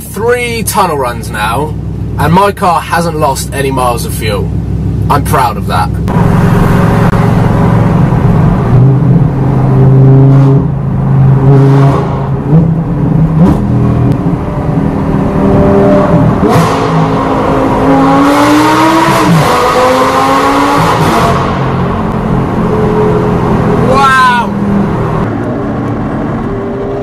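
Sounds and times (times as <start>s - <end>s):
sports car engine revving: 4.4s - 27.0s.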